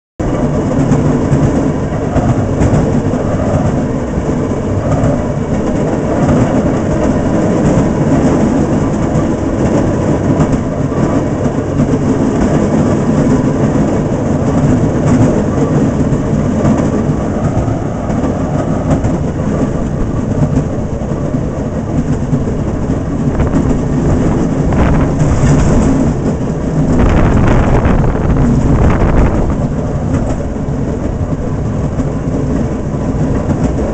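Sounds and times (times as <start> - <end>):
rail car engine: 0.2 - 33.9
wheels clicking over track: 0.2 - 33.9.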